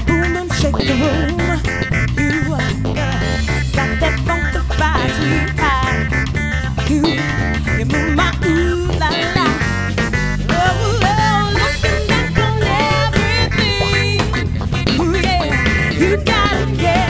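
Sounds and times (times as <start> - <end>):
electric guitar: 0.0 - 17.0
soul band playing: 0.0 - 17.0.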